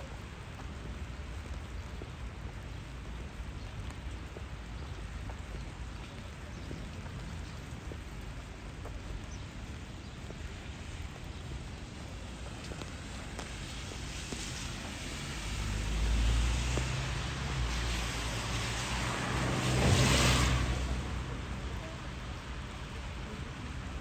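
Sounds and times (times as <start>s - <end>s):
low steady rumble: 0.0s - 24.0s
rain falling on street: 0.0s - 24.0s.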